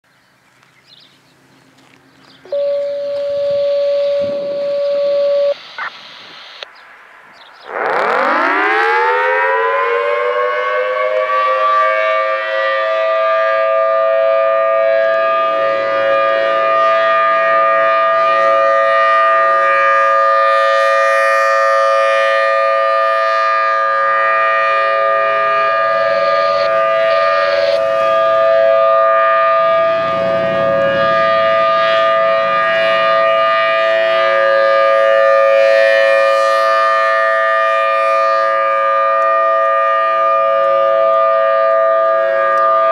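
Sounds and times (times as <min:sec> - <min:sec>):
warning siren steady tone: 0:02.4 - 0:06.7, 0:07.6 - 0:42.9.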